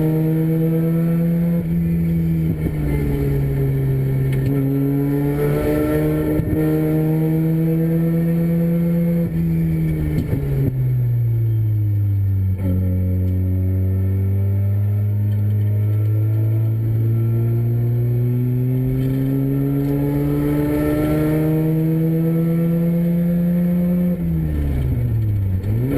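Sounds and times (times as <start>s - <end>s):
rotary race car engine revving: 0.0s - 11.3s, 12.5s - 25.9s.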